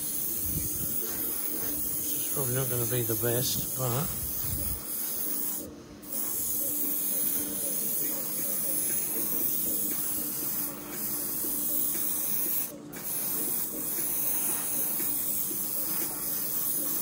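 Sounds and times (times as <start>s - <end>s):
airbrush spraying hiss: 0.0s - 17.0s.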